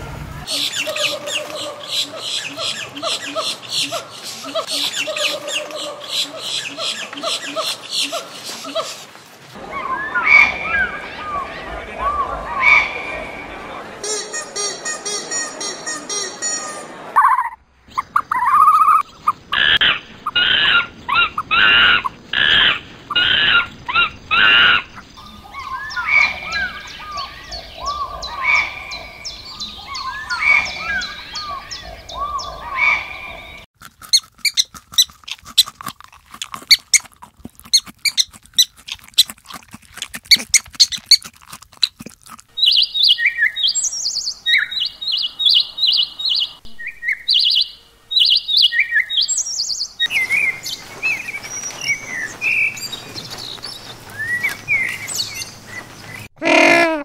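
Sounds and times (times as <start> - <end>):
birds calling and chirping: 0.4 - 35.2, 42.5 - 56.8.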